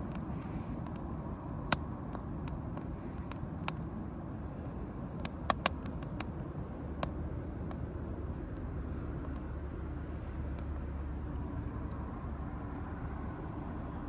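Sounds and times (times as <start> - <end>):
campfire low rumble: 0.0 - 14.0
fire crackling pops: 0.0 - 14.0.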